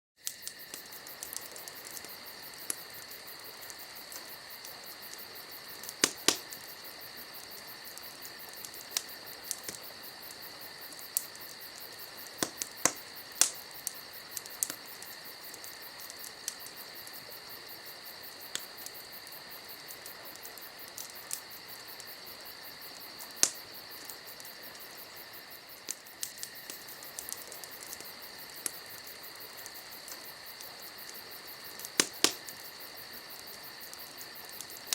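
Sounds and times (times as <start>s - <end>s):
campfire crackling and popping: 0.2s - 34.9s
crickets chirring: 0.2s - 34.9s.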